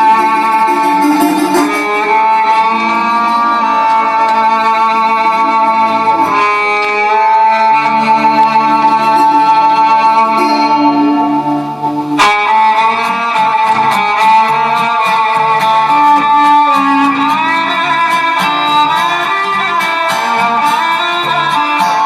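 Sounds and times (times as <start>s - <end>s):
music with guitar and strings: 0.0s - 22.0s.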